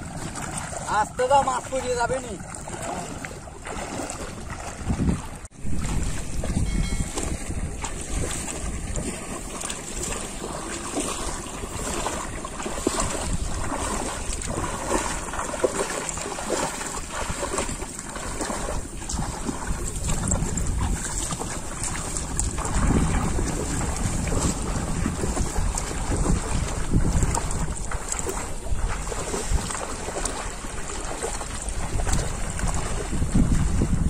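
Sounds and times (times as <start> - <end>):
water splashing and sloshing: 0.0 - 34.0
wind buffeting microphone: 0.0 - 34.0.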